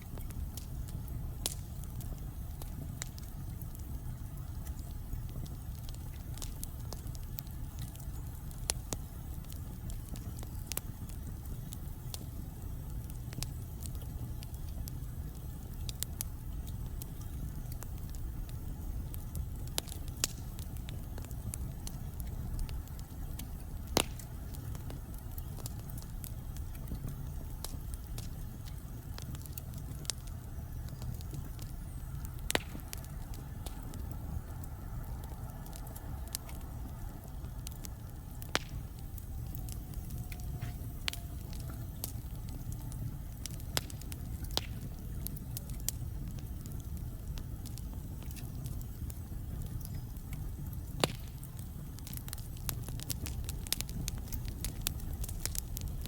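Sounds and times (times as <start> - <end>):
burning logs crackling and popping: 0.0 - 56.0
flames rumbling: 0.0 - 56.0.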